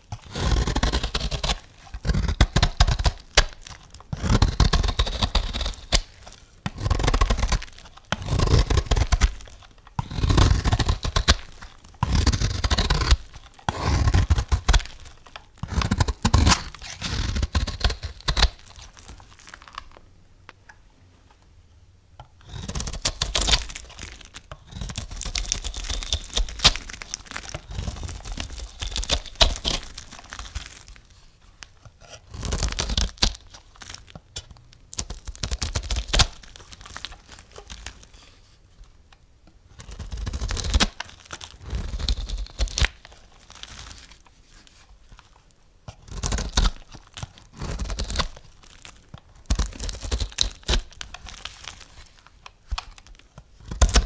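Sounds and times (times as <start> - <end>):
knife cutting through soap: 0.1 - 20.0, 22.4 - 31.2, 31.8 - 38.4, 39.8 - 44.8, 45.8 - 54.0.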